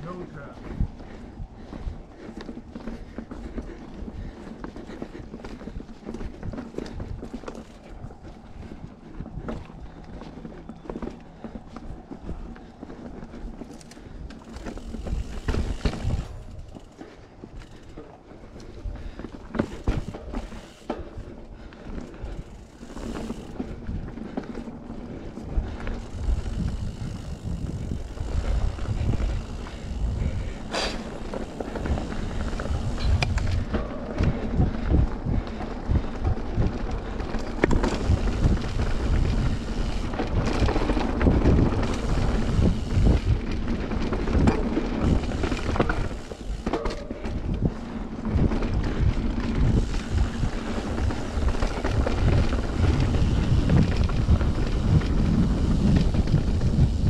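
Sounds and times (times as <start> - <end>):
bike rattling over bumps: 0.0 - 57.0
bike tyres rolling on dirt: 0.0 - 57.0
wind buffeting microphone: 0.0 - 57.0.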